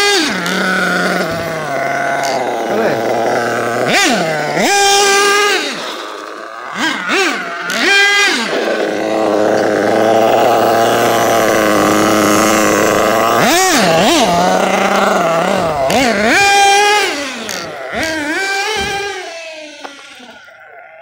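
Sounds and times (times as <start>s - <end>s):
model engine revving: 0.0s - 21.0s.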